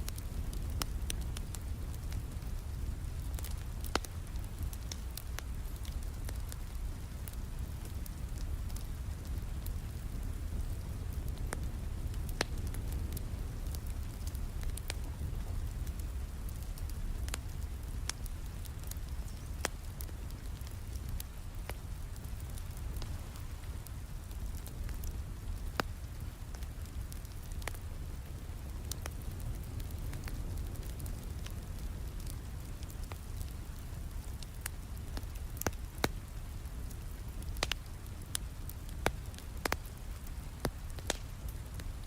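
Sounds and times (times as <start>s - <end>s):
fireplace crackling: 0.0s - 42.0s
steady rain: 0.0s - 42.0s.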